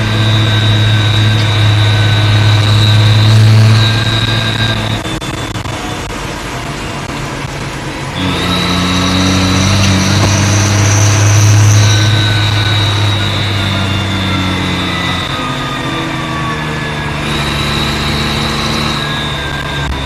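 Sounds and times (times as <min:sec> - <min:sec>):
turbocharger whistle: 0:00.0 - 0:06.1, 0:08.2 - 0:20.0
tractor engine running: 0:00.0 - 0:20.0.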